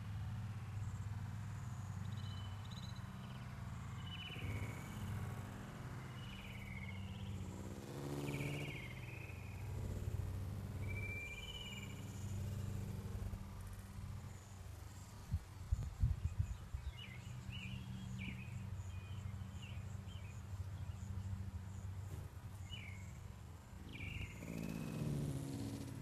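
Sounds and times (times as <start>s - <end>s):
steady low hum: 0.0s - 26.0s
birds chirping: 1.7s - 15.1s, 16.2s - 26.0s.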